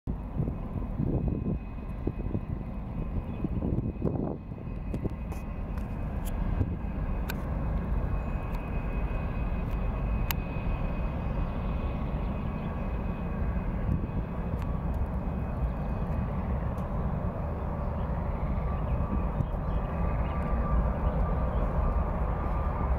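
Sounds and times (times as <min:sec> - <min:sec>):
jet engines at take-off power: 0:00.1 - 0:22.9.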